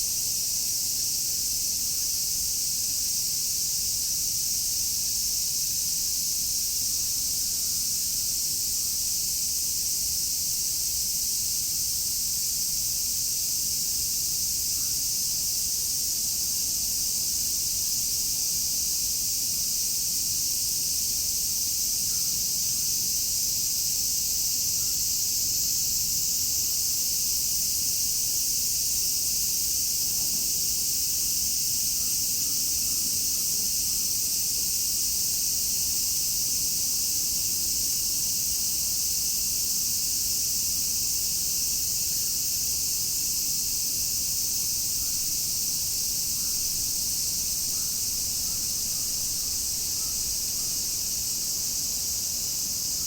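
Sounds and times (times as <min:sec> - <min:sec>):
cicadas buzzing: 0:00.0 - 0:53.0.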